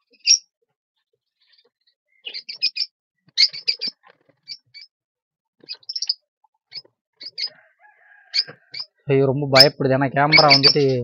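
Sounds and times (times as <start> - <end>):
lovebirds chirping: 0.0 - 4.9, 5.6 - 11.0.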